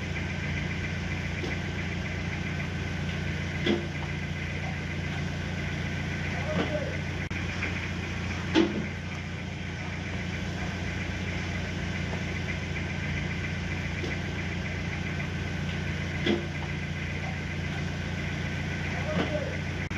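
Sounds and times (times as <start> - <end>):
engine idling hum: 0.0 - 19.9.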